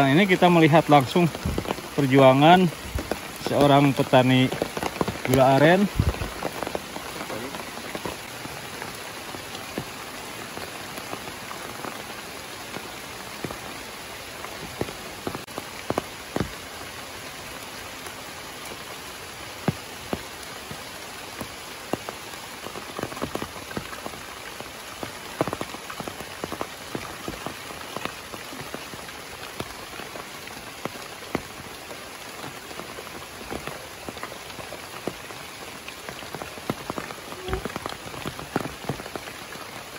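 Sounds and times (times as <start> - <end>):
heavy rain falling: 0.0 - 39.9
raindrops tapping close by: 0.0 - 39.9.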